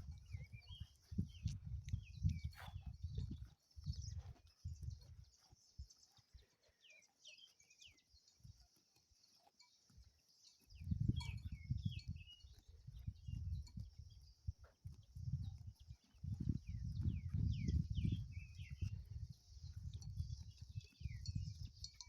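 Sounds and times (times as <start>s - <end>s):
sheep grazing rustling thumps: 0.0s - 22.0s
small birds chirping: 0.0s - 22.0s.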